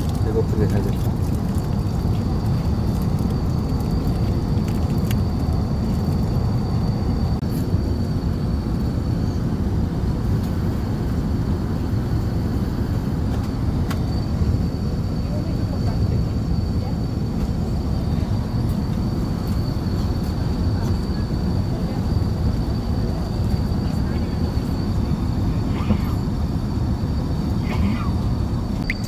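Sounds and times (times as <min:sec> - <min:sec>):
faint high whine: 0:00.0 - 0:29.0
low cabin rumble: 0:00.0 - 0:29.0.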